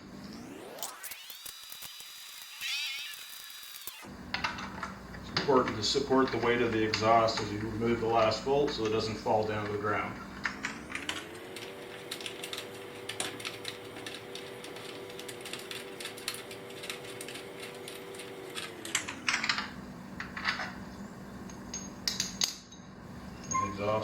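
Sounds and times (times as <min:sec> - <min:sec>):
power tool motor with clicking rattle: 0:00.2 - 0:20.8.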